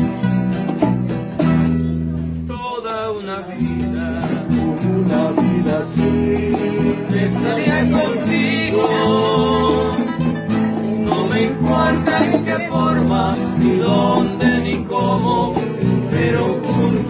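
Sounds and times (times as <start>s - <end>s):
maracas shaking: 0.0s - 2.4s, 3.2s - 17.0s
nylon-string acoustic guitars: 0.0s - 17.0s.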